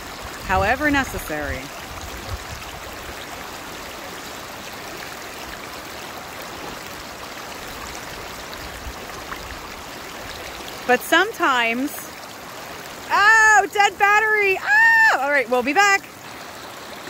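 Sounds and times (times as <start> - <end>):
creek water running over stones: 0.0 - 17.0.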